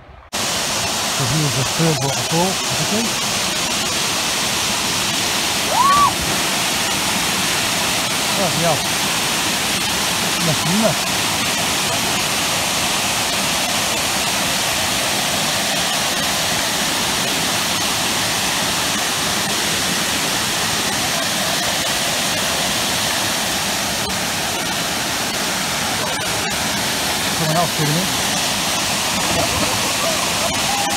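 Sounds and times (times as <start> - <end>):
waterfall rushing: 0.3 - 30.9.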